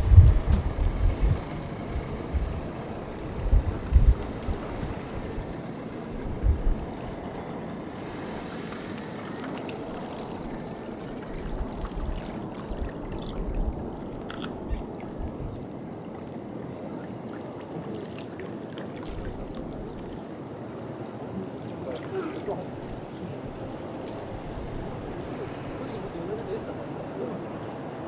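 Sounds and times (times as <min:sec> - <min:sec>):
wind buffeting microphone: 0:00.0 - 0:28.0
water lapping against stone wall: 0:04.1 - 0:28.0.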